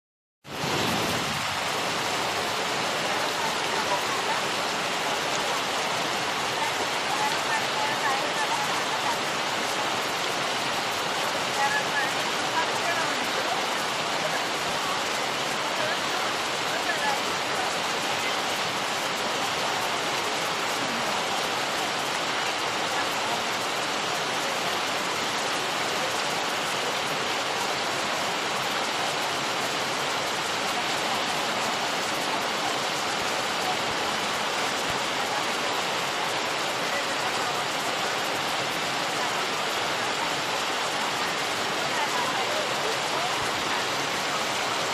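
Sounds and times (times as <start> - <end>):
river rapids rushing over rocks: 0.5 - 44.9.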